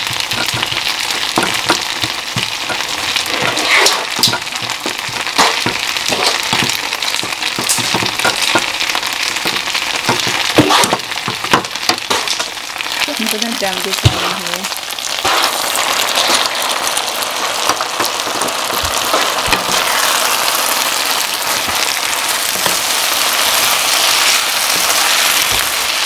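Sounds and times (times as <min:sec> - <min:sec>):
stir-fry sizzling in pan: 0:00.0 - 0:26.0.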